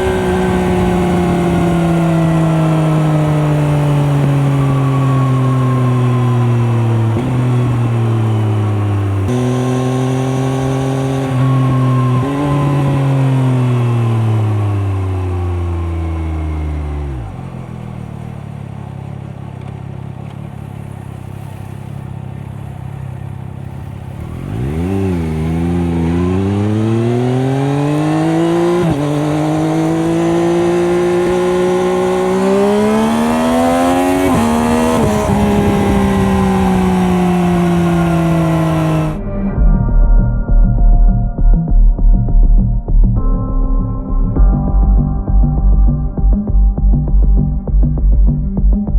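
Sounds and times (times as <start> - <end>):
motorcycle engine revving and shifting: 0.0 - 40.0.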